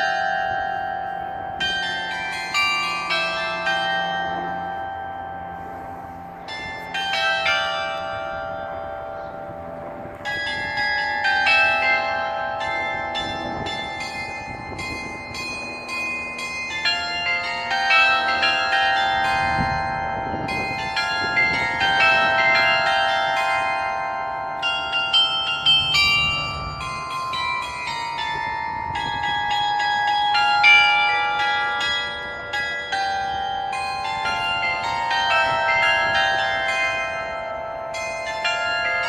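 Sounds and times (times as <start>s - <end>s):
carillon bells playing a tune: 0.0s - 39.0s.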